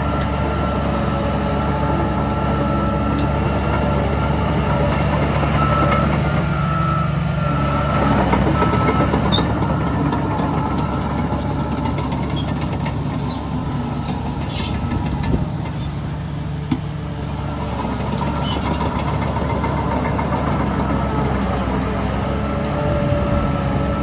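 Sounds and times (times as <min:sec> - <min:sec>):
heavy diesel machinery rumbling: 0:00.0 - 0:24.0.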